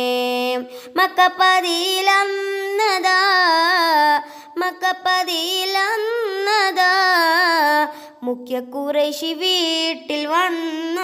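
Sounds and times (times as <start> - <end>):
boy singing devotional song: 0.0 - 11.0.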